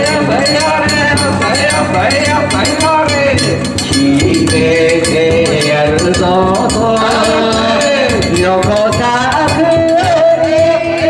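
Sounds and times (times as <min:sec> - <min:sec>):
drum beating quick rhythm: 0:00.0 - 0:11.0
men singing a hauling song: 0:00.0 - 0:11.0
small gongs: 0:00.0 - 0:11.0.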